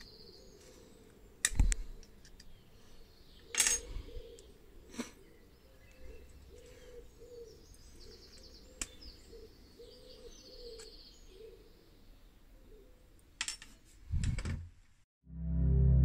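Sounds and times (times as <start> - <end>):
faint birdsong: 0.0 - 13.4.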